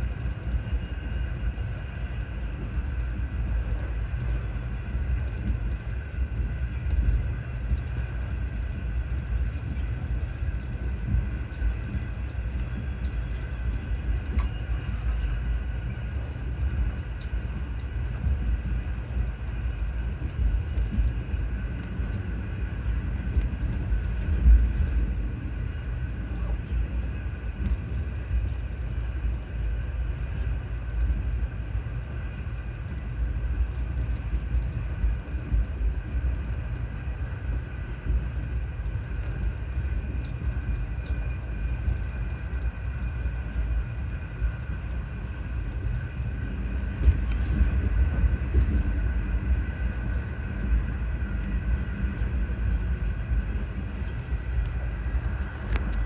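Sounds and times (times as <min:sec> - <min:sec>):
faint steady whine: 0:00.0 - 0:56.0
train rumbling on track: 0:00.0 - 0:56.0.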